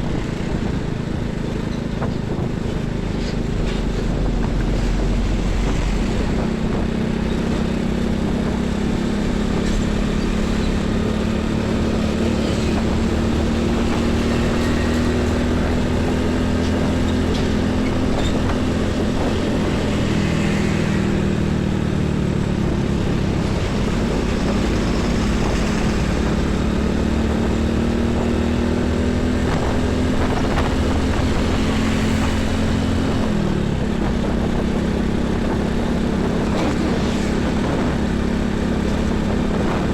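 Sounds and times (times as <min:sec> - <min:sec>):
heavy truck engine running: 0:00.0 - 0:39.9
passing road traffic: 0:00.0 - 0:39.9.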